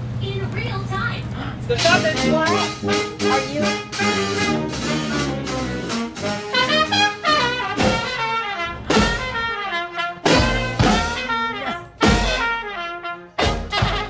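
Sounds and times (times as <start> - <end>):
heavy low beats: 1.7 - 12.8, 13.4 - 14.0
trumpet and trombone playing: 1.8 - 14.0.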